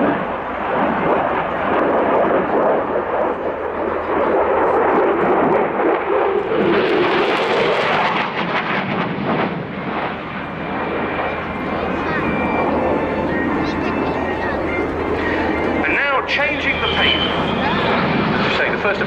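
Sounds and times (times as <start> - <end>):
fighter jet engine roaring: 0.0 - 19.0.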